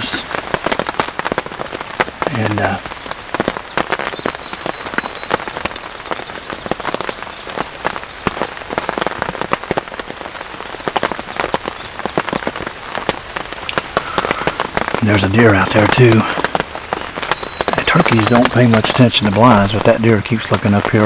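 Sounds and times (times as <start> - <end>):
rain tapping on fabric: 0.0 - 21.0.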